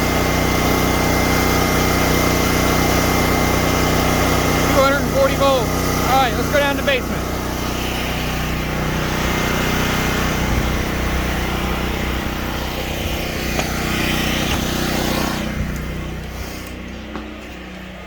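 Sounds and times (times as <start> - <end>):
generator engine running: 0.0 - 18.0.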